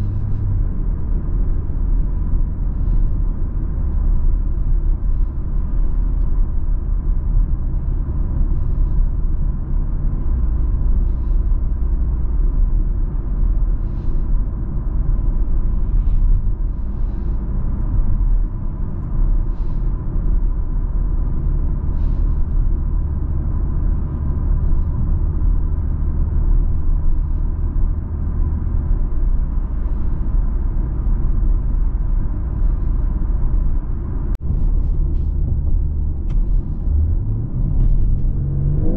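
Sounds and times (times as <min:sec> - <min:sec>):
car engine low rumble: 0:00.0 - 0:38.9
tyre and road noise: 0:00.0 - 0:38.9.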